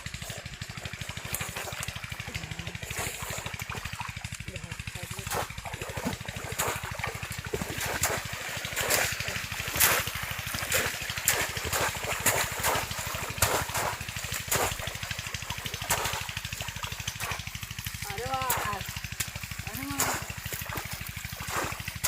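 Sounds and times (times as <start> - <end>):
low motor chug: 0.0 - 22.0
water splashing and sloshing: 0.0 - 22.0.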